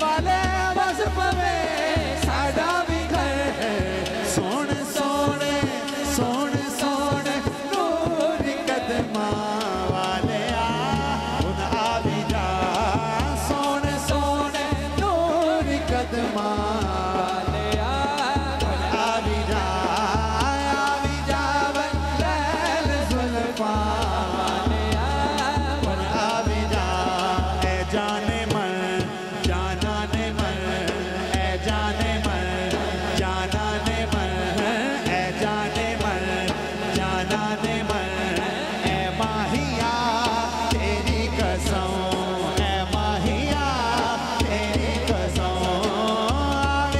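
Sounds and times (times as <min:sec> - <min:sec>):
dhol drum beat: 0:00.0 - 0:46.9
singer with chorus through pa: 0:00.0 - 0:46.9.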